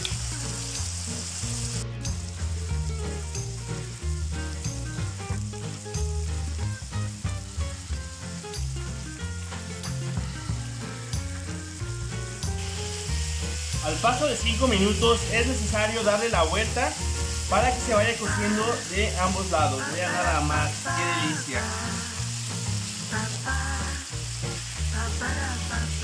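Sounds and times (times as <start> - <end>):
chicken sizzling in frying pan: 0.0 - 26.0
soft background music with bass: 0.0 - 26.0.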